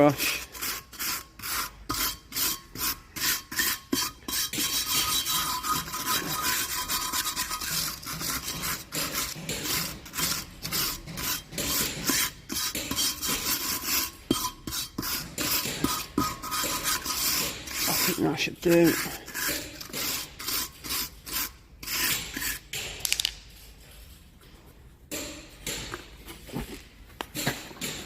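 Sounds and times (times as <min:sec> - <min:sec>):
wire brush scrubbing metal: 0:00.0 - 0:22.8.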